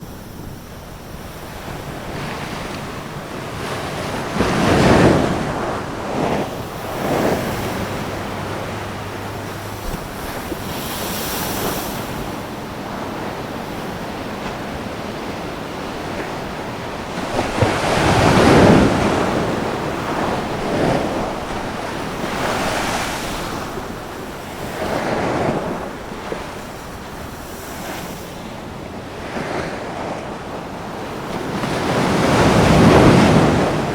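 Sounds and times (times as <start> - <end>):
rush of water: 0.0 - 33.9
waves crashing: 0.0 - 33.9
wind noise on microphone: 0.0 - 33.9.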